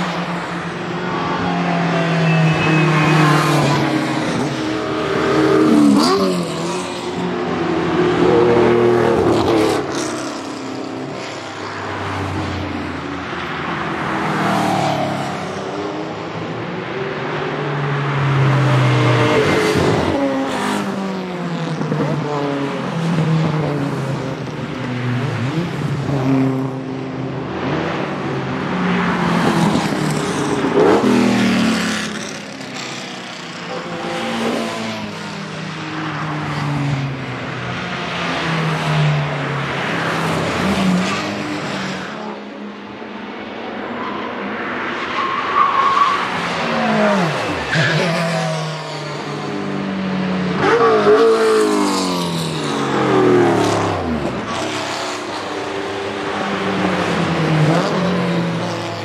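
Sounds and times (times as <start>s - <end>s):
race cars passing: 0.0s - 59.0s.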